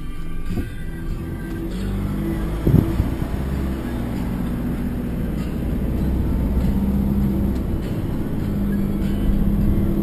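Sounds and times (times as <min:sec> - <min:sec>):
held low tones: 0:00.0 - 0:10.0
motor vehicle running: 0:00.0 - 0:10.0.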